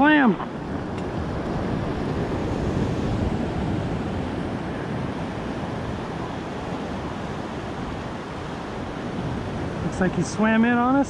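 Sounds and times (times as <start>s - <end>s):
ocean surf washing on beach: 0.0s - 11.0s
wind on microphone: 0.0s - 11.0s.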